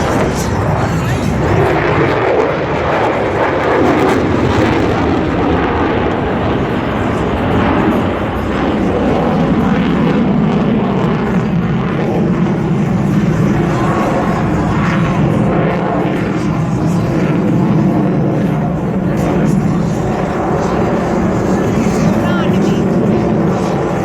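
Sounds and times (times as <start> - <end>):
fighter jet engine roar: 0.0 - 24.0.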